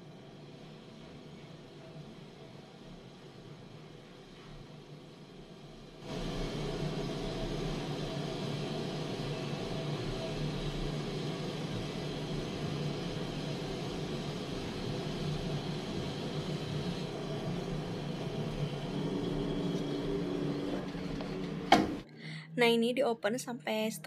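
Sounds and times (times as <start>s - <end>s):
mechanical whirring hum: 0.0s - 24.0s.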